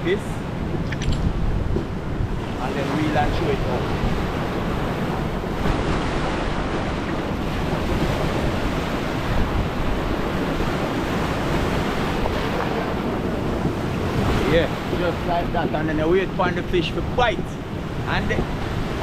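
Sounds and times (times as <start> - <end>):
rough surf breaking on shore: 0.0 - 19.0
wind buffeting microphone: 0.0 - 19.0.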